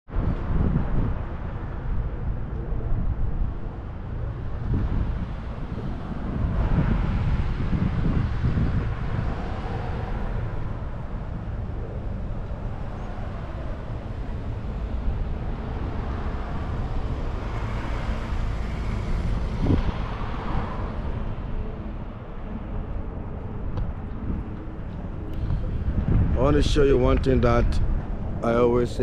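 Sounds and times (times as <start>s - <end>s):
traffic noise: 0.1s - 29.0s
wind rumbling on microphone: 0.1s - 29.0s.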